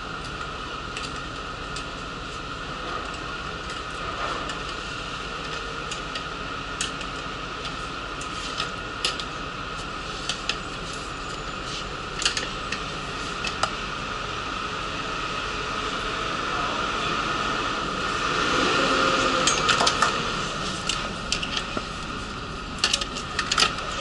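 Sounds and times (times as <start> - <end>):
bus interior hum: 0.0 - 24.0.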